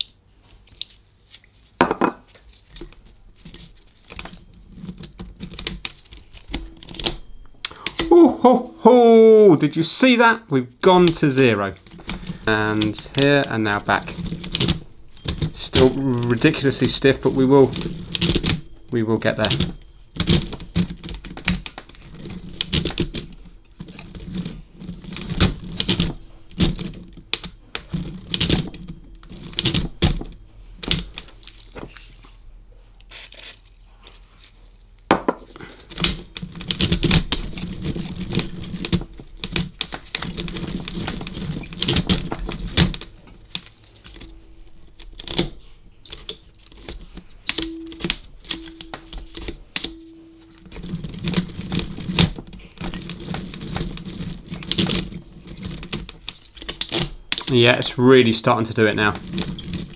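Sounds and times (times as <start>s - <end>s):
mechanical calculator clicking and clunking: 4.1s - 8.2s, 10.8s - 31.4s, 35.8s - 59.9s.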